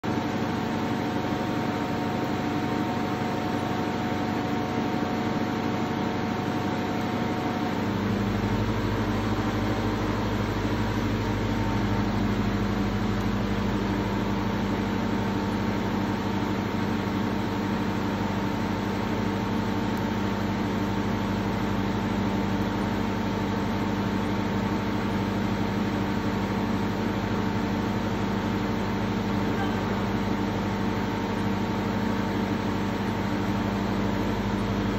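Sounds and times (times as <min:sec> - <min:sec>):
steady mechanical hum: 0:00.0 - 0:34.9.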